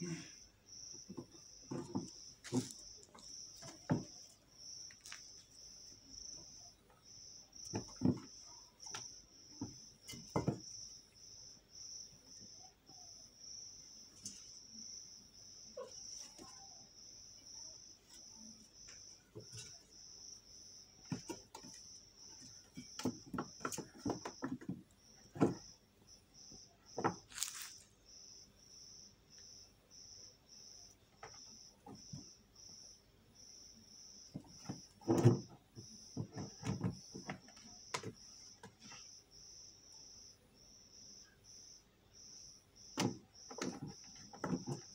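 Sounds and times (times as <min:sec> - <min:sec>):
cats playing on concrete: 0:00.0 - 0:44.9
cricket chirping: 0:00.0 - 0:44.9.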